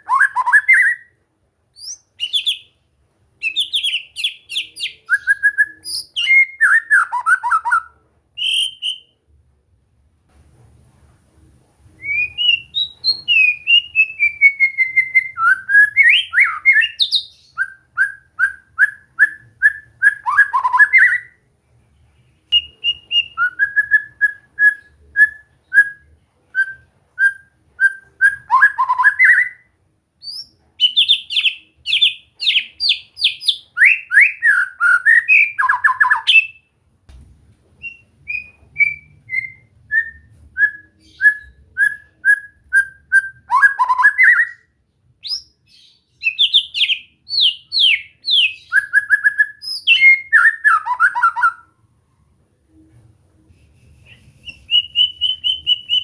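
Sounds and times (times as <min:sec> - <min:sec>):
bird singing whistled phrases: 0:00.0 - 0:01.1, 0:01.8 - 0:02.7, 0:03.4 - 0:09.1, 0:12.0 - 0:21.4, 0:22.5 - 0:36.7, 0:37.8 - 0:51.7, 0:54.4 - 0:56.0.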